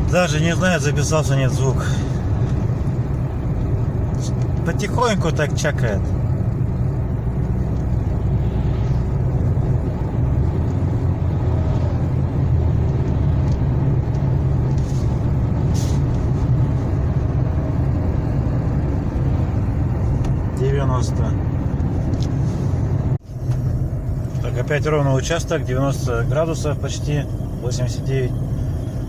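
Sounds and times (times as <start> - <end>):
car engine running: 0.0 - 29.0
soft engine ticking: 0.0 - 29.0.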